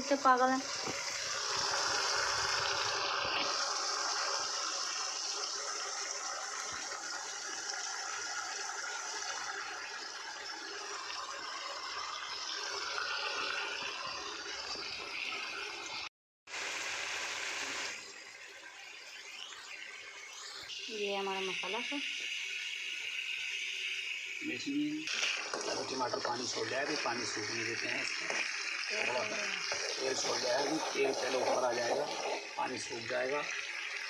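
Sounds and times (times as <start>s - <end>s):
tomato paste sizzling in oil: 0.0s - 15.9s, 16.5s - 34.0s.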